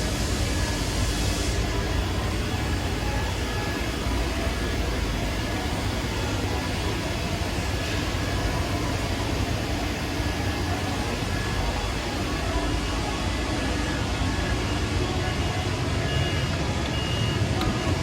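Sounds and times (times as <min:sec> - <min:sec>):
industrial machinery humming: 0:00.0 - 0:18.0.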